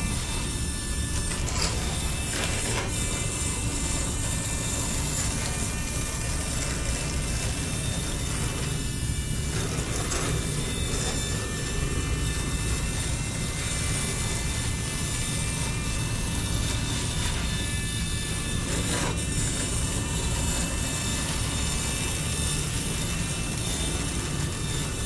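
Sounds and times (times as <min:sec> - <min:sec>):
small electric motor and gears: 0:00.0 - 0:25.0.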